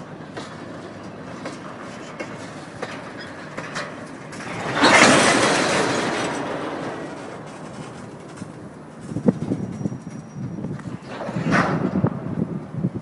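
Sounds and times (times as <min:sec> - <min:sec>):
wheels clicking over rail joints: 0:00.0 - 0:12.8
freight train wheels rumbling: 0:00.0 - 0:13.0.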